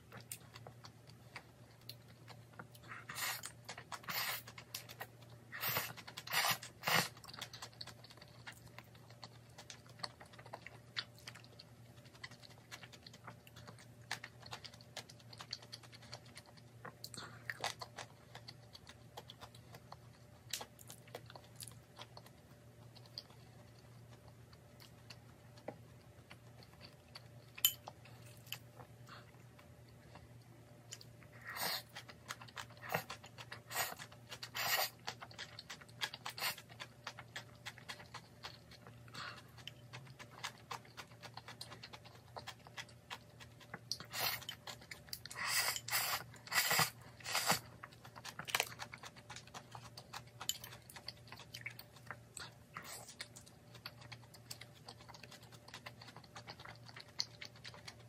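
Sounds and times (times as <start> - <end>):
chewing food: 0.0 - 58.0.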